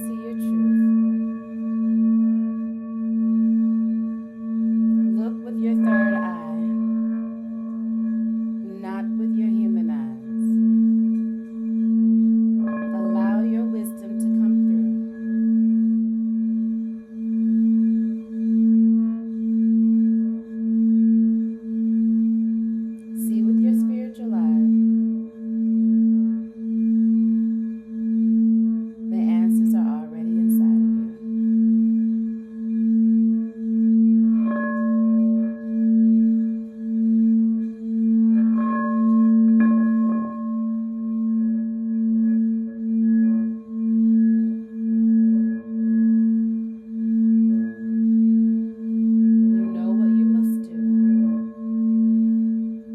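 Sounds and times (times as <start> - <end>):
higher bowl ringing tones: 0.0 - 52.9
singing bowl low ringing: 0.0 - 52.9.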